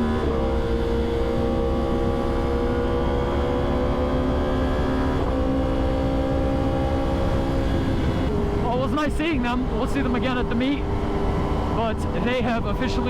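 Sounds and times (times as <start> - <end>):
motorcycle engine accelerating: 0.0 - 13.0
wind noise: 0.0 - 13.0.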